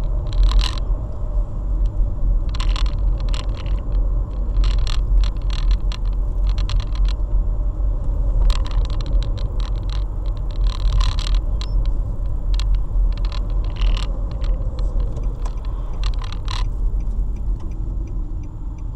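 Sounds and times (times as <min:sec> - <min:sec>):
small clicks and rattles: 0:00.0 - 0:00.9, 0:01.8 - 0:07.3, 0:08.0 - 0:18.9
car engine and tyre rumble: 0:00.0 - 0:18.9.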